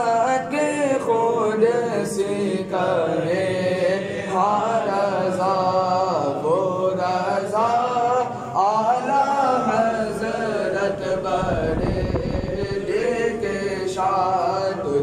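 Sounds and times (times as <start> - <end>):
man singing devotional chant: 0.0 - 15.0.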